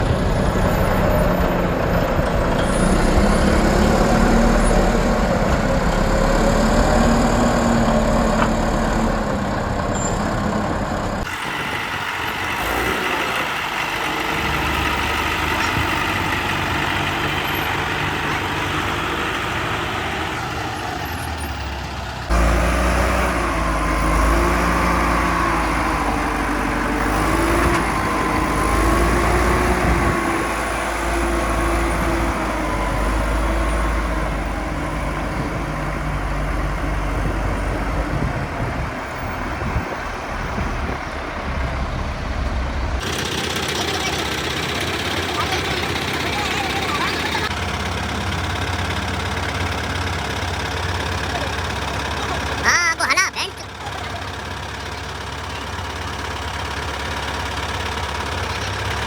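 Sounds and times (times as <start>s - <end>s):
heavy machinery engines running: 0.0s - 59.0s.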